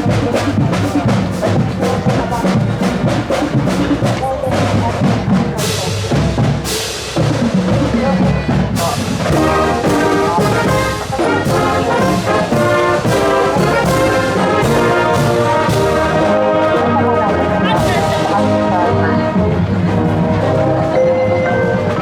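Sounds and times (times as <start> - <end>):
drums: 0.0 - 22.0
marching band brass: 0.0 - 22.0.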